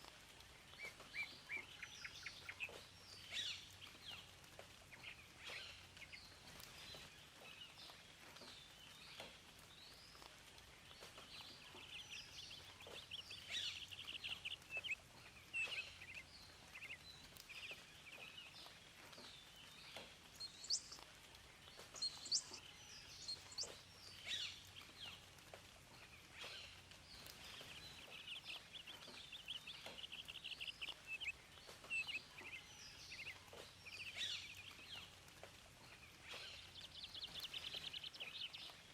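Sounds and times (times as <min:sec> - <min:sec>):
faint steady background noise: 0:00.0 - 0:38.9
songbirds chirping and singing: 0:00.0 - 0:38.9.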